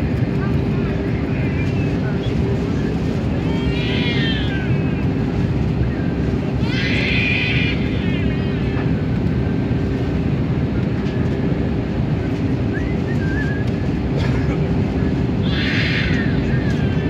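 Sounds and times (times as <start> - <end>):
airplane cabin roar: 0.0 - 17.0.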